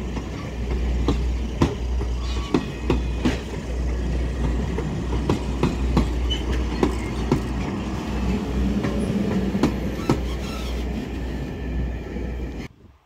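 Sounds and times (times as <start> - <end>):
train wheels clacking: 0.0 - 11.3
low train rumble: 0.0 - 13.0.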